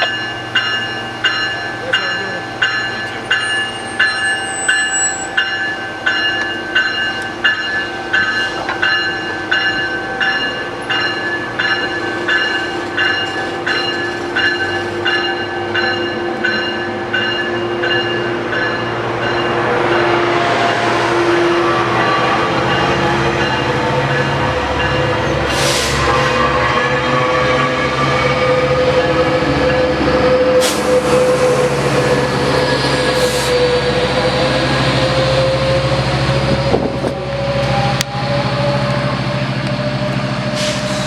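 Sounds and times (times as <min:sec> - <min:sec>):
railroad bell clanging: 0:00.0 - 0:41.0
train rumble: 0:00.0 - 0:41.0.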